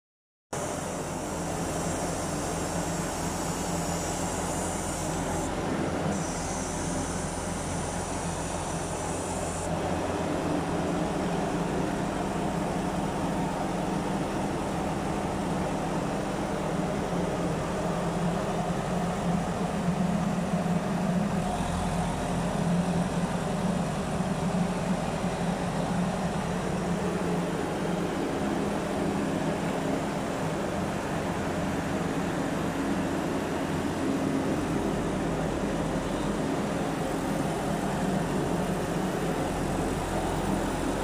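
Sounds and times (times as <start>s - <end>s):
diesel engine under hydraulic load: 0.6s - 41.0s.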